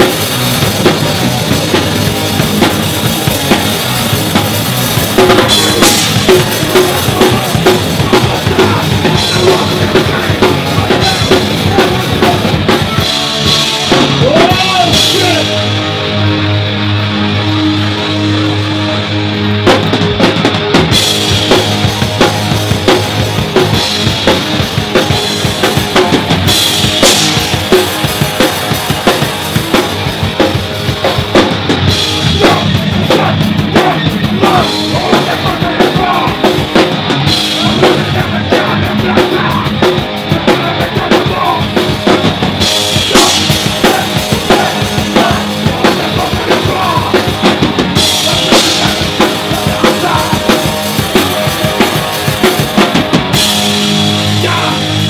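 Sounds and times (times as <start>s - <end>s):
drums with cymbal crashes: 0.0s - 16.1s, 19.6s - 55.0s
punk band playing loud: 0.0s - 55.0s.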